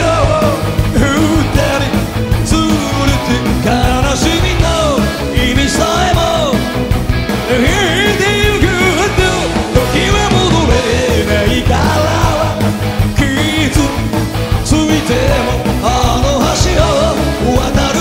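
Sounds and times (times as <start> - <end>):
live rock band playing: 0.0 - 18.0
man singing: 0.0 - 18.0.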